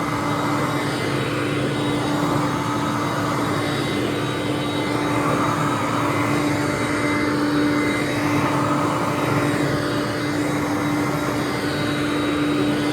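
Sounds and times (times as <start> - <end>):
vacuum cleaner running: 0.0 - 12.9.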